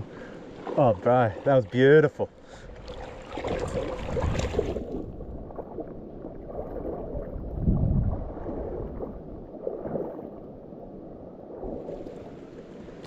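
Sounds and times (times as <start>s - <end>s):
river water sloshing and gurgling: 0.0s - 13.0s.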